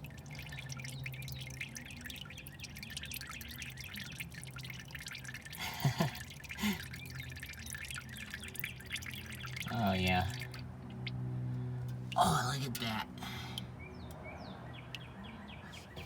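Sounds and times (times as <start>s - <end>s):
oil pouring and dripping: 0.0s - 15.1s.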